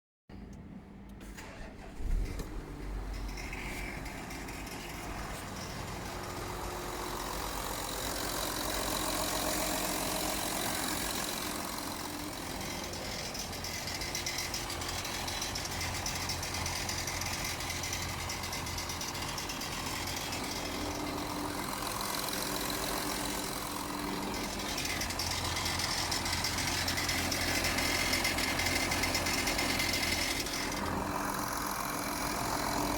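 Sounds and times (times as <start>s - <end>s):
engine ticking: 1.1s - 32.9s
diesel engine idling: 1.2s - 32.9s.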